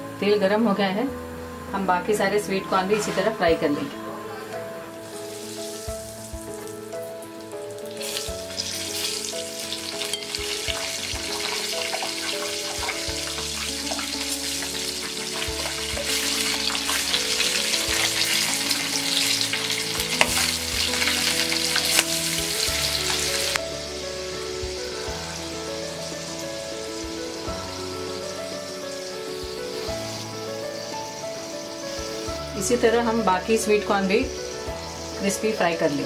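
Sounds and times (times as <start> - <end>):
corn deep-frying in oil: 5.0 - 36.0.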